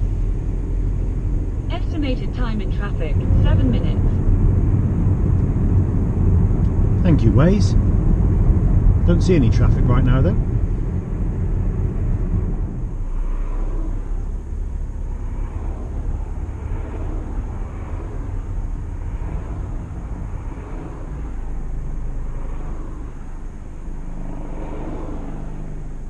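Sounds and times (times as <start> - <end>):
in-cabin road rumble: 0.0 - 26.0.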